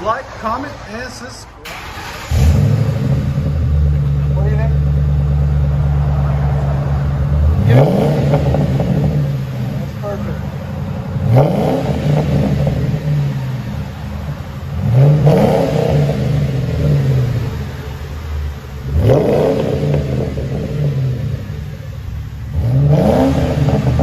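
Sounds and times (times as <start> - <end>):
car engine revving and idling: 0.0 - 24.0.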